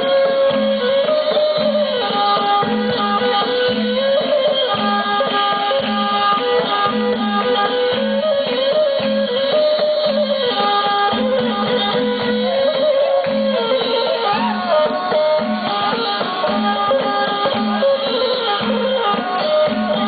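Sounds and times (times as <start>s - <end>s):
hand drumming: 0.0s - 20.0s
instrumental folk melody: 0.0s - 20.0s.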